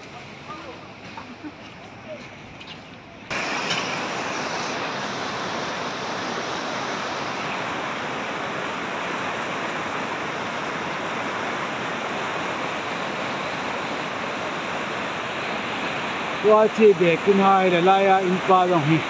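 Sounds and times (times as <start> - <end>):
floodwater rushing: 3.2 - 19.0.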